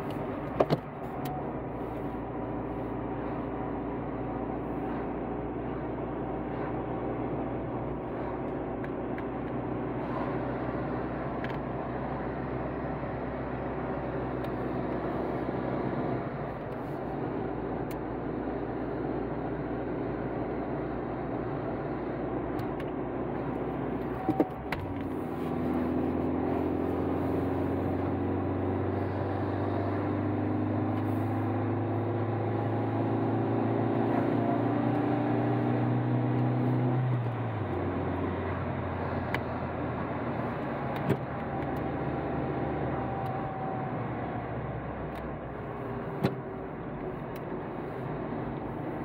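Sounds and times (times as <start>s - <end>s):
car engine: 0.0s - 49.0s
road noise: 0.0s - 49.0s.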